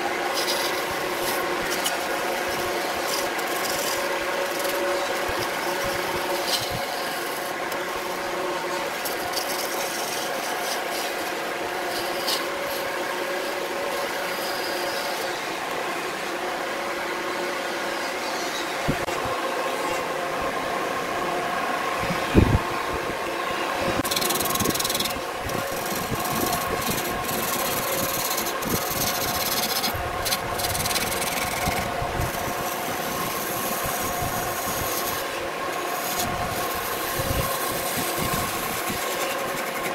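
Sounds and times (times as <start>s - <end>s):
gouge scraping spinning wood: 0.0s - 20.1s, 23.9s - 39.9s
wood lathe motor hum: 0.0s - 39.9s.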